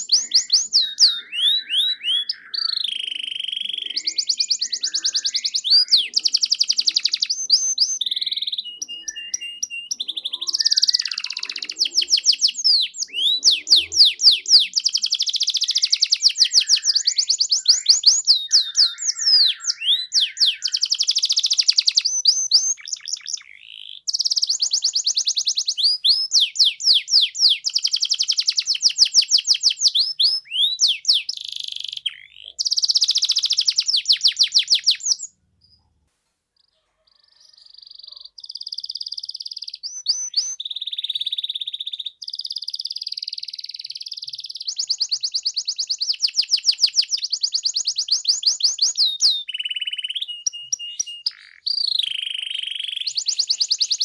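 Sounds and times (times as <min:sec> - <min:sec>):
canary singing: 0:00.0 - 0:36.0, 0:36.6 - 0:54.0.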